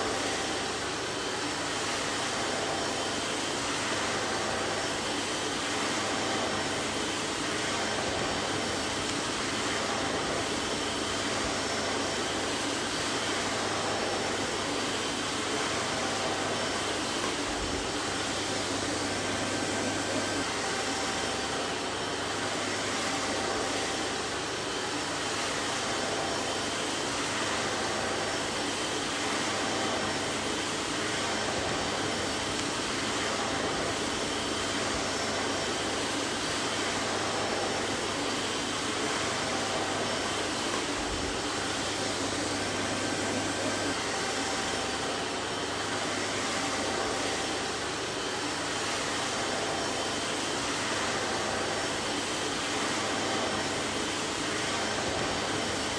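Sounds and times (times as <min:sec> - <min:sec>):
vacuum cleaner running: 0:00.0 - 0:55.9.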